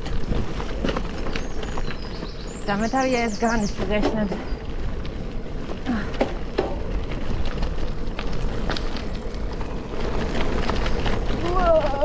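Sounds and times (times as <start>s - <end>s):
bike clicks and rattles: 0.0s - 12.0s
tyres and air rumble: 0.0s - 12.0s.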